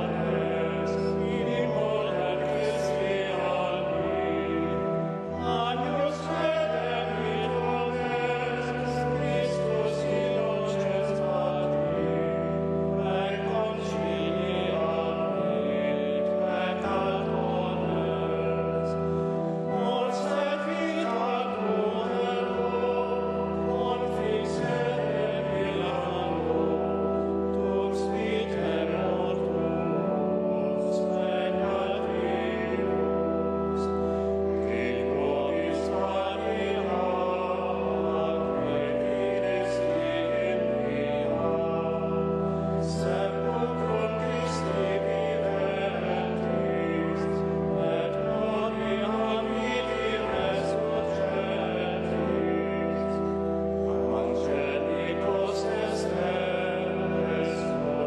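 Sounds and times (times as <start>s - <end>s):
choir chanting: 0.0s - 58.0s
organ: 0.0s - 58.0s.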